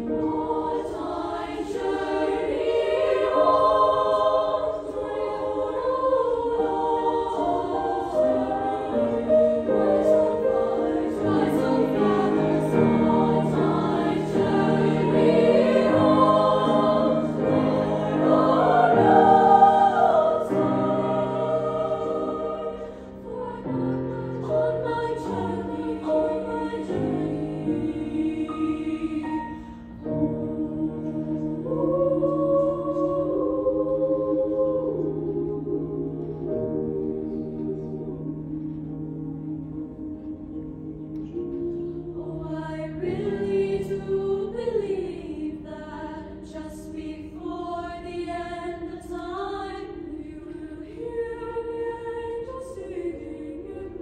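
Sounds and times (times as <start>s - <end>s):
choir singing: 0.0s - 54.0s
piano accompaniment: 0.0s - 54.0s.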